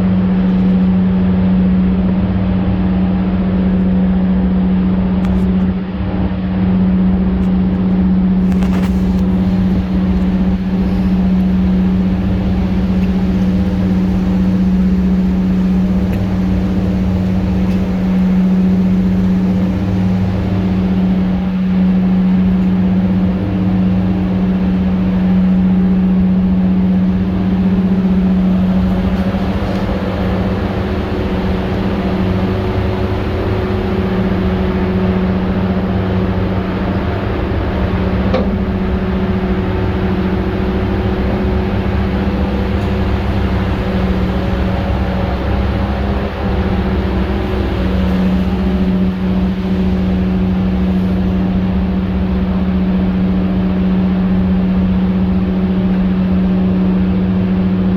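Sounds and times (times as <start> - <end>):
boat engine droning: 0.0 - 57.9.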